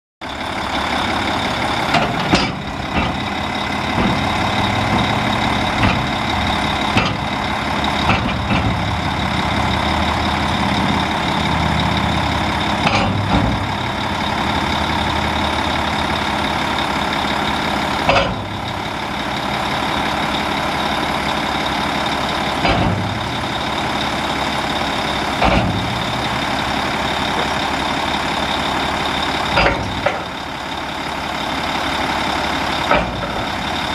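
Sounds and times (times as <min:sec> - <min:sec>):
truck diesel engine running: 0:00.2 - 0:33.9.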